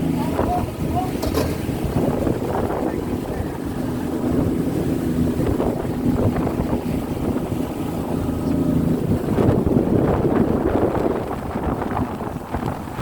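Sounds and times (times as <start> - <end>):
engine humming: 0.0 - 13.0
wind buffeting microphone: 0.0 - 13.0.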